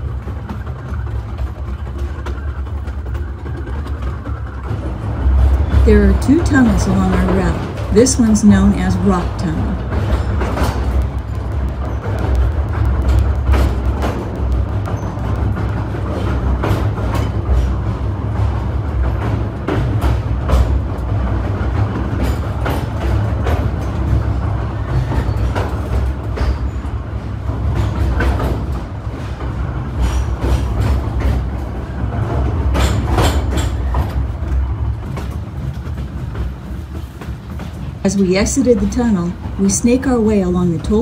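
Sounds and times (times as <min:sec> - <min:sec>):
train cars rumbling: 0:00.0 - 0:41.0
wheels clacking over rails: 0:00.0 - 0:41.0.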